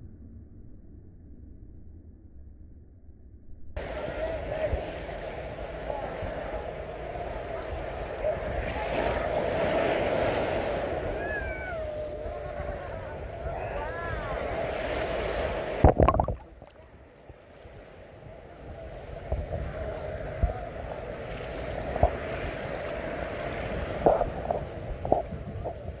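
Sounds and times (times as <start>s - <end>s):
sea waves splashing: 3.8s - 26.0s.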